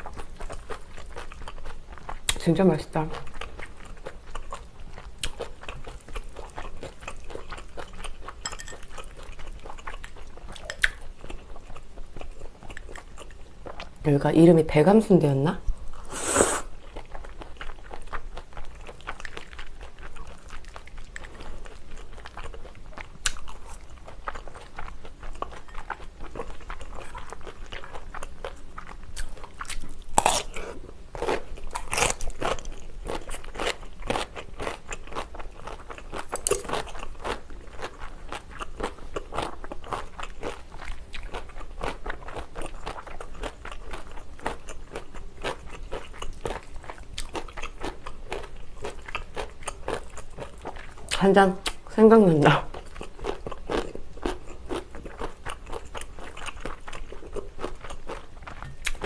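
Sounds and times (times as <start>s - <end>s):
wet chewing and biting: 3.1s - 13.9s, 16.9s - 51.9s, 52.7s - 59.0s.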